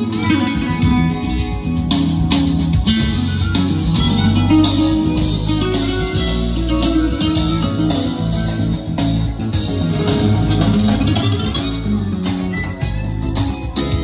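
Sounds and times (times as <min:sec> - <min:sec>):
guitar music with bass line: 0:00.0 - 0:14.0.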